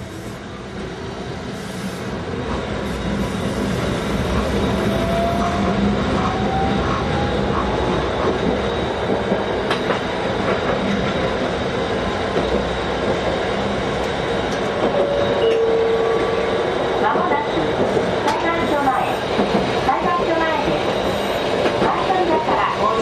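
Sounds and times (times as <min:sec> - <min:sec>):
tram rolling noise: 0:00.0 - 0:23.0.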